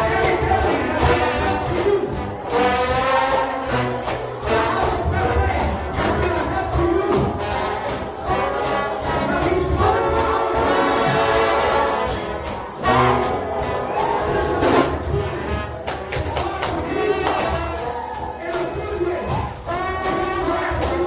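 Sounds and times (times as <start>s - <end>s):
brass horns playing chords: 0.0s - 18.2s, 19.6s - 21.0s
tambourines shaking: 0.0s - 21.0s.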